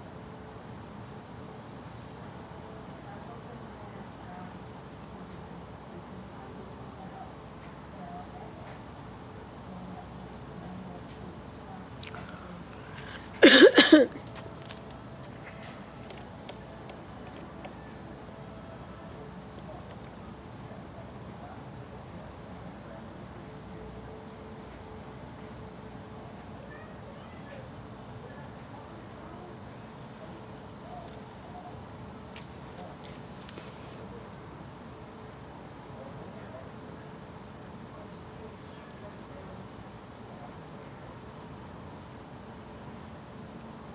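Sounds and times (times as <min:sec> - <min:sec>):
cricket chirping: 0:00.0 - 0:43.9
faint background hiss: 0:00.0 - 0:43.9.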